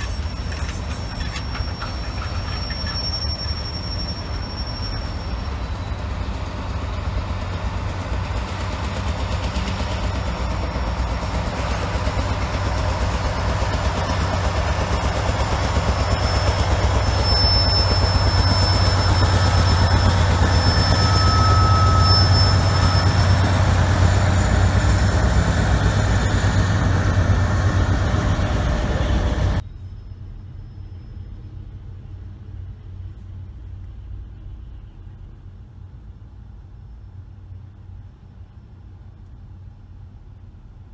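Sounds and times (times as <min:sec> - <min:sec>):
diesel locomotive engines rumbling: 0:00.0 - 0:40.9.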